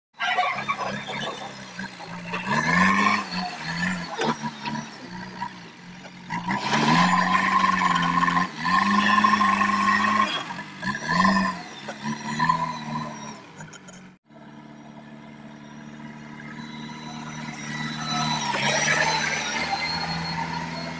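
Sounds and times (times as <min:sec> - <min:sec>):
diesel engine revving and labouring: 0:00.2 - 0:20.9
hydraulic whine: 0:00.2 - 0:20.9.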